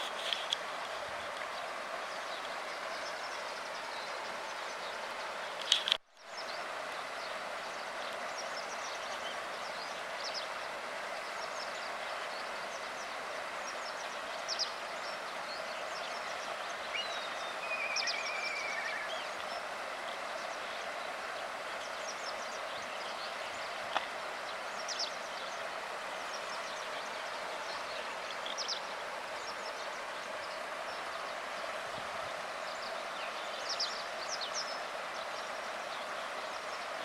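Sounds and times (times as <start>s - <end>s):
stream water flowing: 0.0s - 37.0s.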